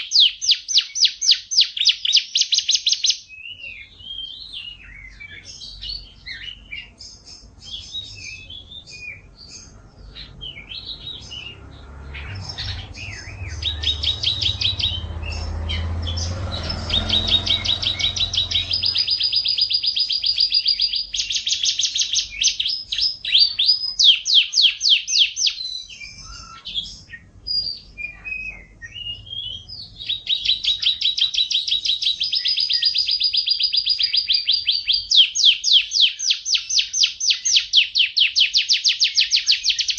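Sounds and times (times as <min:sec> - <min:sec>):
canary singing with trills: 0:00.0 - 0:39.9.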